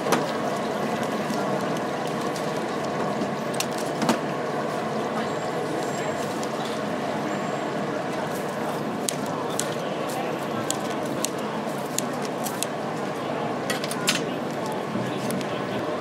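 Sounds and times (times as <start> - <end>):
crowd murmur: 0.0 - 16.0.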